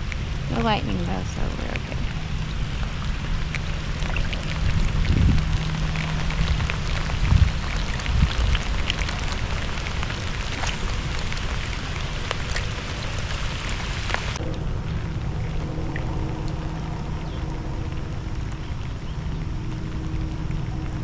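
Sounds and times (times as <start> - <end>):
low rumbling: 0.0 - 21.0
rain falling on water: 0.0 - 21.0.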